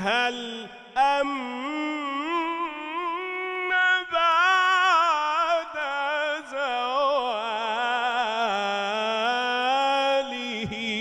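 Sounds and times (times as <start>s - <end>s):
man singing devotional chant: 0.0s - 11.0s.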